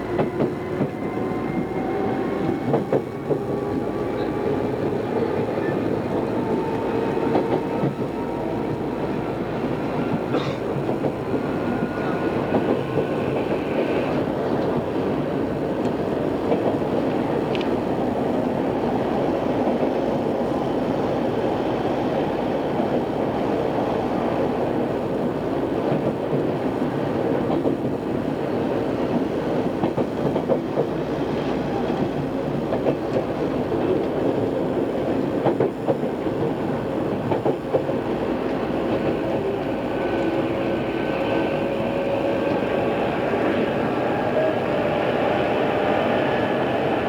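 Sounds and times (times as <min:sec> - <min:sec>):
train rumble from inside: 0:00.0 - 0:47.0.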